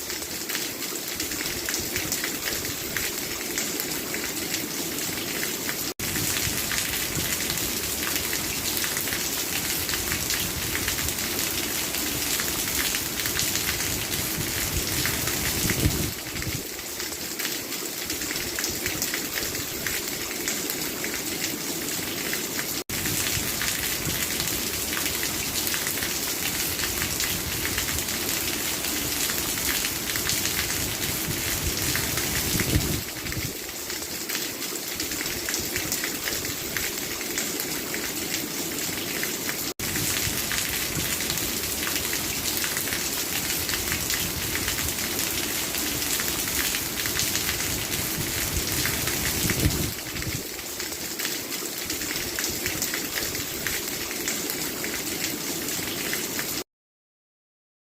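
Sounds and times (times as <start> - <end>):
steady rain hiss: 0.0 - 56.4.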